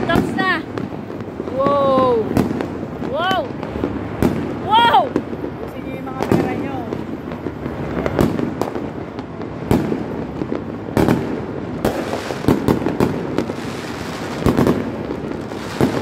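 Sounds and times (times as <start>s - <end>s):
distant fireworks explosions: 0.0s - 16.0s
fireworks banging: 0.0s - 16.0s.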